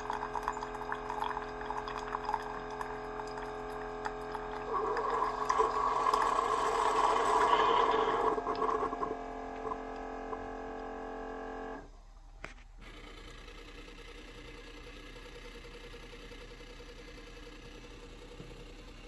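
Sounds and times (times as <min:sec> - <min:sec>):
coffee maker pump hum: 0:00.0 - 0:19.0
faint steady hum: 0:00.0 - 0:19.0.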